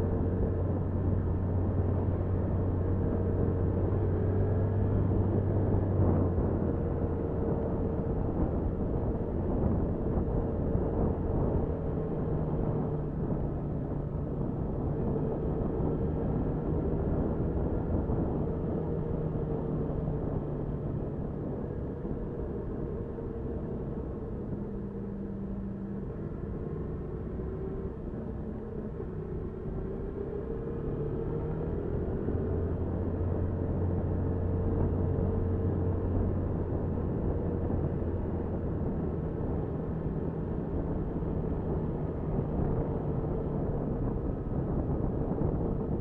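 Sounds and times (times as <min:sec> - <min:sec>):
road and wind rumble: 0:00.0 - 0:46.0.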